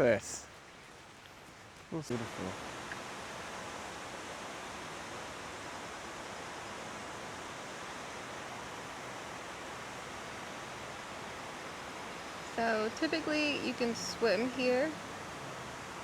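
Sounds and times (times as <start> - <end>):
waterfall rushing: 1.9 - 16.0.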